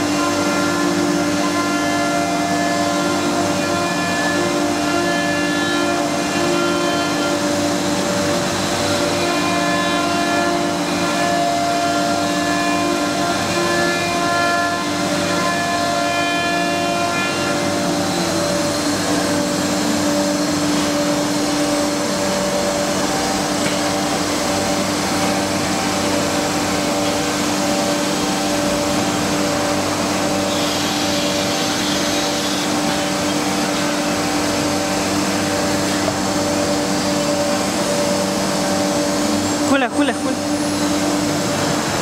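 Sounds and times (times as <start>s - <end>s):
router spindle whine: 0.0s - 15.9s, 16.6s - 42.0s.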